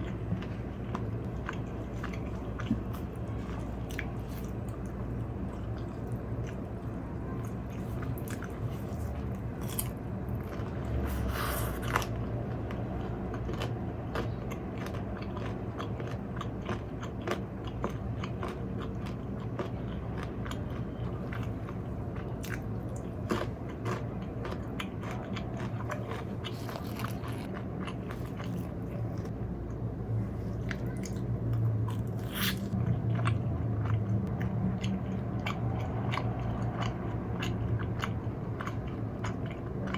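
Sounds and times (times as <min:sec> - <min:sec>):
crunching and chewing fried chicken: 0:00.0 - 0:39.9
steady low hum: 0:00.0 - 0:39.9.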